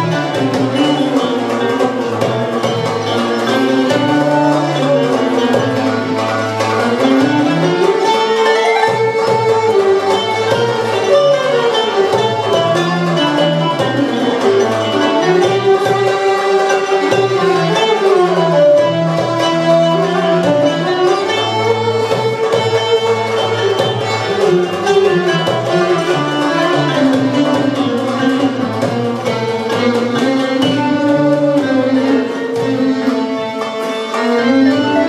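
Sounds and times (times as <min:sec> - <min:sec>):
violin cello and kanun ensemble: 0:00.0 - 0:35.0.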